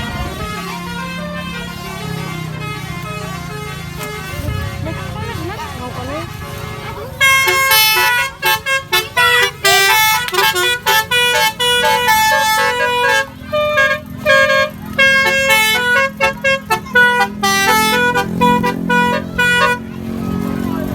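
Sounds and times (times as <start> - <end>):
musical air horn melody: 0.0 - 20.0.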